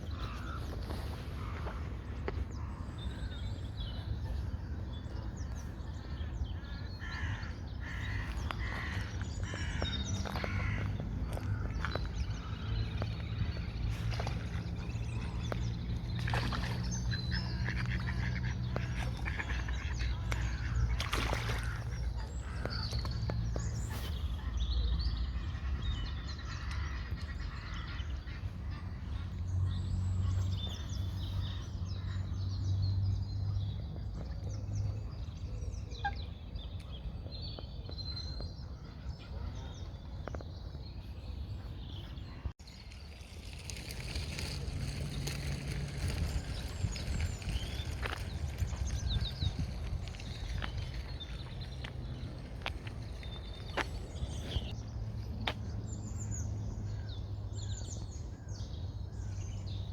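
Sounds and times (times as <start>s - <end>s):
birds calling and chirping: 0.0s - 59.9s.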